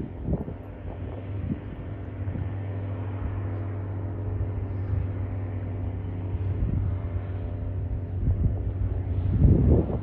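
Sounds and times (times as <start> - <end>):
light aircraft engine droning: 0.0 - 10.0
wind buffeting microphone: 0.0 - 10.0.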